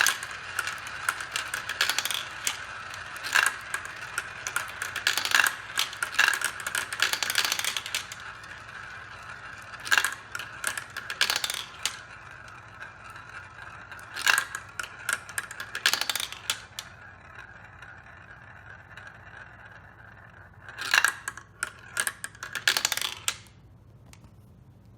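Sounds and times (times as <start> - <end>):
marbles rolling rattle: 0.0 - 23.6
marbles clicking and clacking: 0.0 - 24.2.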